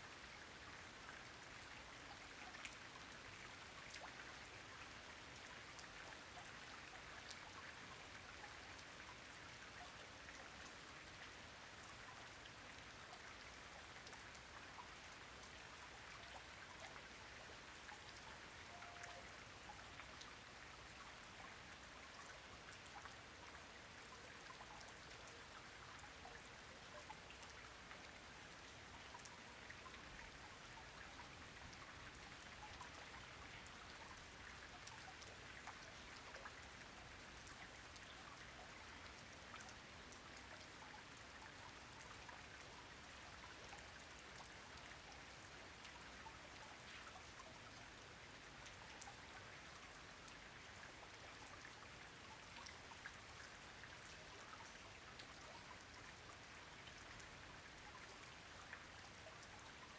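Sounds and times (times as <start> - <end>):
faint steady rain: 0.0 - 59.9.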